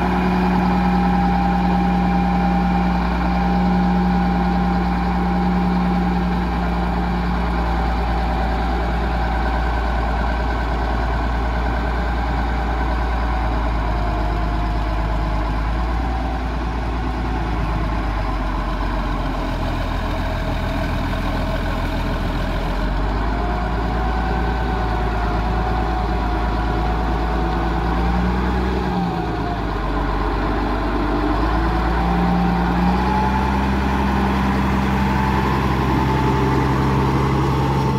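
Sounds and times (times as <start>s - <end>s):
motor grader diesel engine running: 0.0s - 37.9s.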